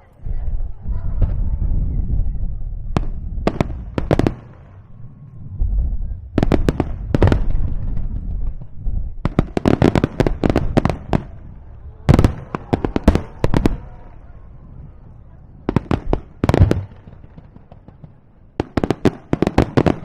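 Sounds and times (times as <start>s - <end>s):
low rumble: 0.0s - 16.8s
fireworks bangs: 0.2s - 20.0s.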